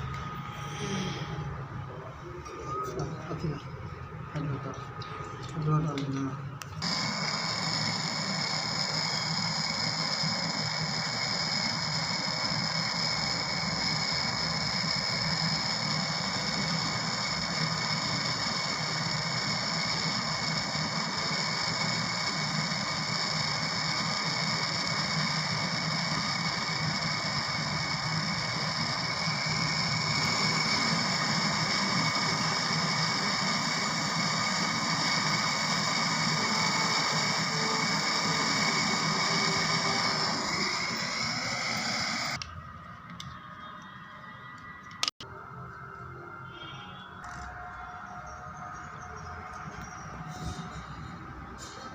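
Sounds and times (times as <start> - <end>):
compressor humming and whining: 0.0 - 43.4, 46.7 - 51.9.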